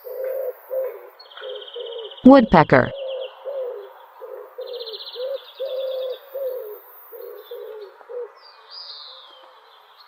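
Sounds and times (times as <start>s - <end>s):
pigeon cooing: 0.0s - 2.2s, 2.9s - 9.6s
small birds chirping and trilling: 0.0s - 2.3s, 2.9s - 10.0s.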